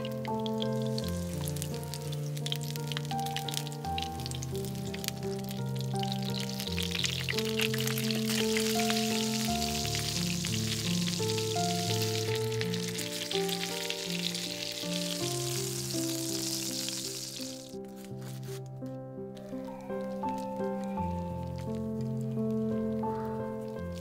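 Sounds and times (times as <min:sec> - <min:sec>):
background music: 0:00.0 - 0:24.0
oil sizzling and crackling: 0:00.0 - 0:24.0.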